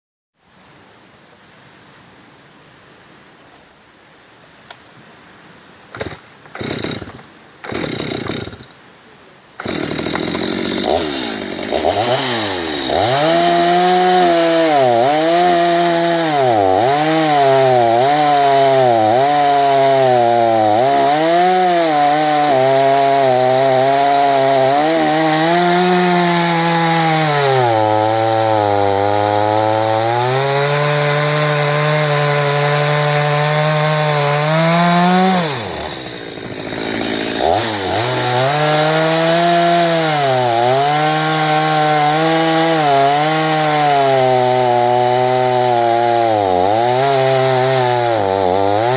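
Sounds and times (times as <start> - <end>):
chainsaw cutting wood: 5.9 - 8.8, 9.6 - 48.9.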